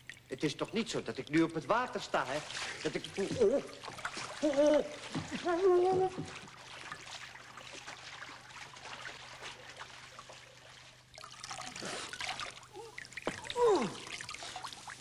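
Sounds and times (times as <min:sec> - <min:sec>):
water splashing and gurgling: 0:00.0 - 0:15.0.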